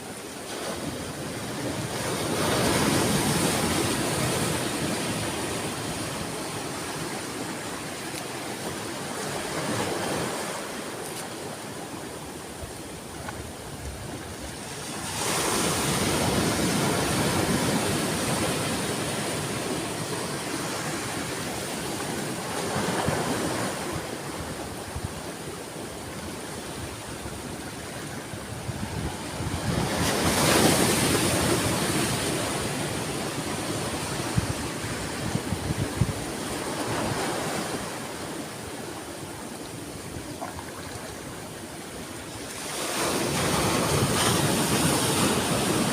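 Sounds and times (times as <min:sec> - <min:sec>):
sea waves breaking on shore: 0:00.0 - 0:45.9.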